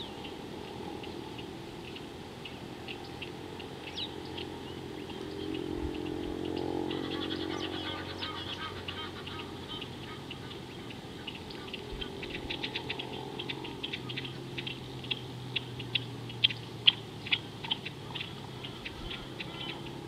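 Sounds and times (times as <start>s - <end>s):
low droning hum: 0.0s - 20.0s
outdoor background noise: 0.0s - 20.0s
small birds chirping: 0.0s - 20.0s.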